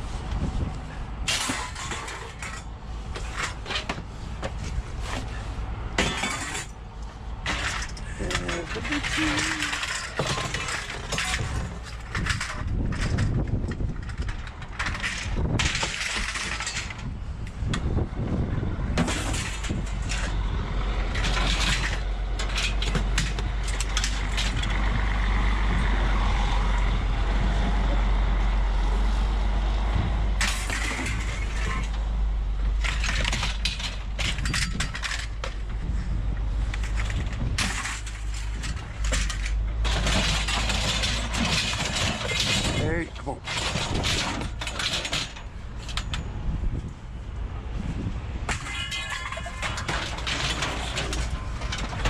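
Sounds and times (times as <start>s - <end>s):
scrap metal clanking: 0.0s - 18.0s, 19.0s - 25.9s, 30.4s - 46.9s, 48.4s - 52.0s.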